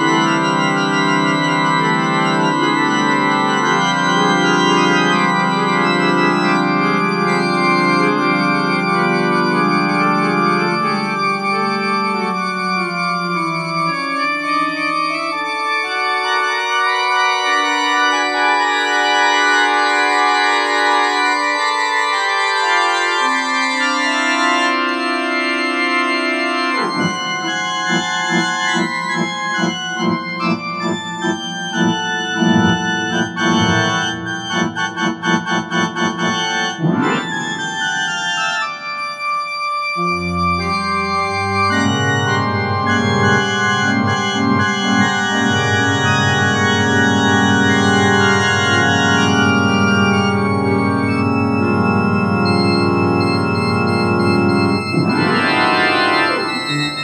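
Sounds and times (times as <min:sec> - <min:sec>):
organ and piano music: 0:00.0 - 0:57.0.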